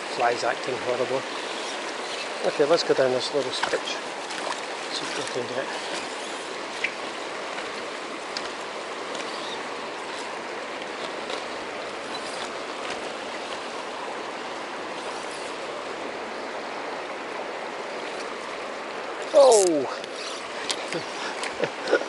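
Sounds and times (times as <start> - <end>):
stream running over stones: 0.0 - 22.0.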